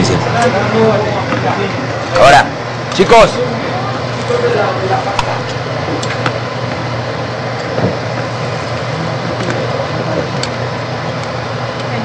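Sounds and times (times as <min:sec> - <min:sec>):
kitchen hum and hiss: 0:00.0 - 0:12.0.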